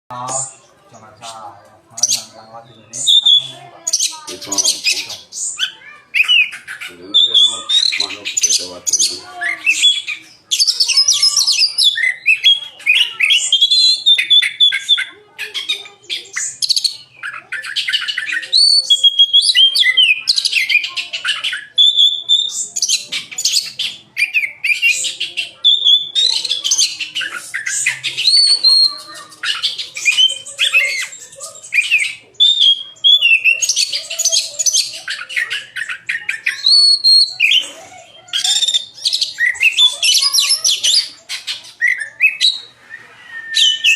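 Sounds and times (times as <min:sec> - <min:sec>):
songbird singing whistles and trills: 0:02.0 - 0:43.9.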